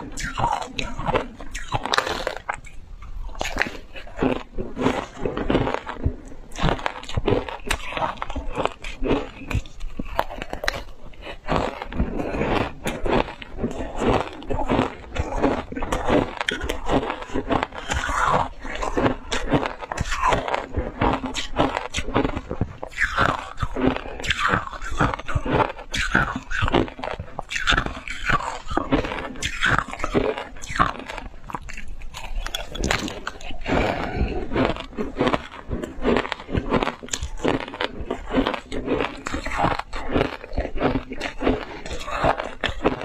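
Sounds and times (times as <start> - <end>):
chewing crunchy ice: 0.0 - 43.0.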